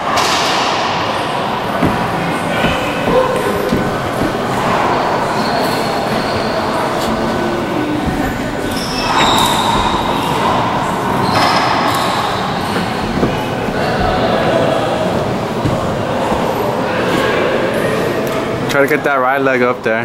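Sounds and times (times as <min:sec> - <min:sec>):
indoor gym hall din: 0:00.0 - 0:20.0.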